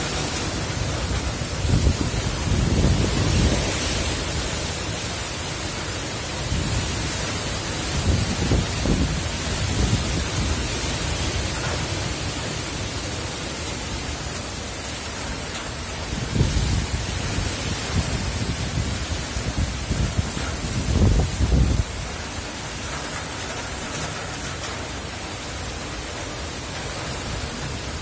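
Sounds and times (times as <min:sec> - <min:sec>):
heavy rain hissing: 0:00.0 - 0:28.0
low wind gusts: 0:00.0 - 0:28.0.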